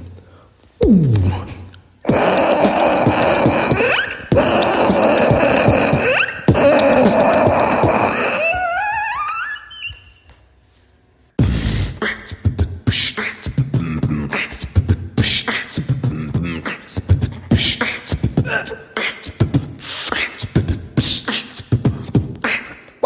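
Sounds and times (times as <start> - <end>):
vocal beatboxing: 0.8 - 10.0, 11.4 - 23.0.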